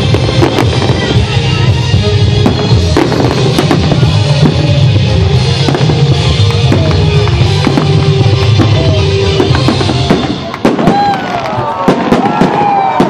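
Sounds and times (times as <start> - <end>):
loud music with heavy bass: 0.0 - 10.8
fireworks bangs and crackles: 0.0 - 13.0.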